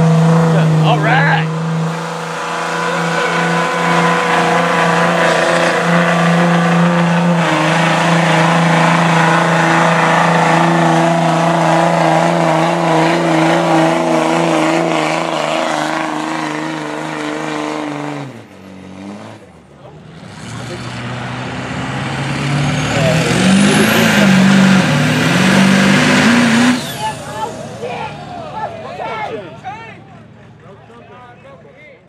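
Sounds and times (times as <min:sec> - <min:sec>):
diesel engine droning at high revs: 0:00.0 - 0:31.7.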